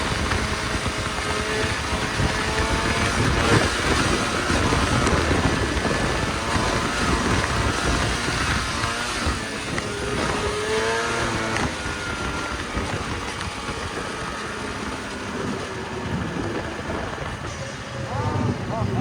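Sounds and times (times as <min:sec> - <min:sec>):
snowmobile engine droning: 0:00.0 - 0:19.0.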